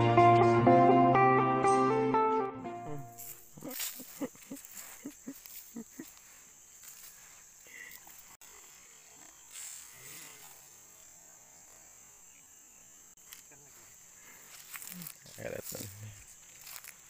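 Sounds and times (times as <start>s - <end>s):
insects droning: 2.7s - 17.0s.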